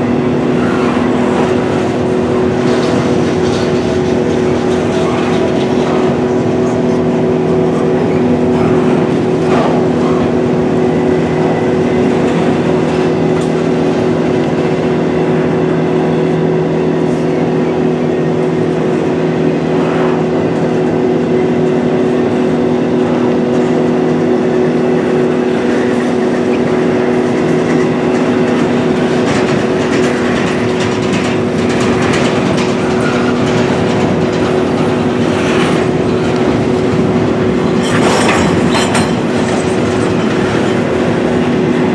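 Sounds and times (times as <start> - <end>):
steady hum: 0.0 - 41.9
train wheels rumbling on rails: 0.0 - 41.9.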